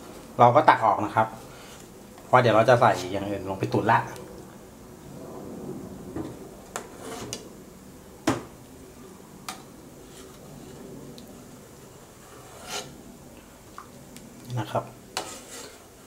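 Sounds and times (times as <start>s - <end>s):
broth simmering: 0.0s - 16.0s.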